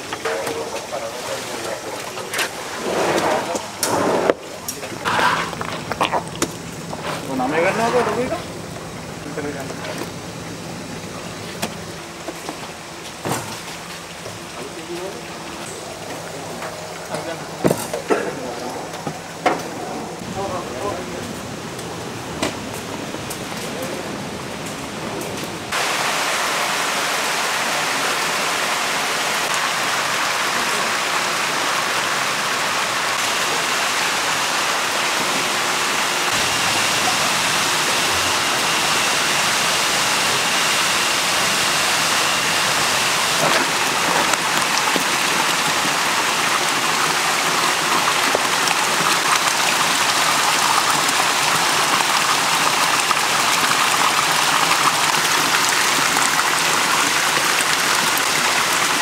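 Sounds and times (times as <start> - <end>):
water rushing and splashing in tanks: 0.0 - 59.0.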